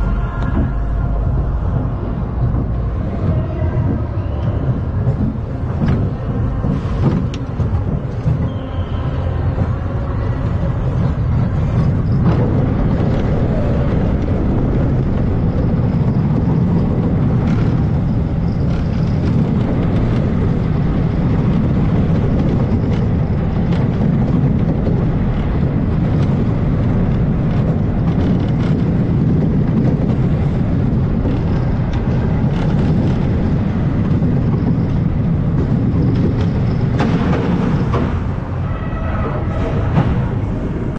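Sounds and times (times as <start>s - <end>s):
roller coaster clanks: 0.0s - 40.9s
roller coaster wheels rumbling: 0.0s - 40.9s.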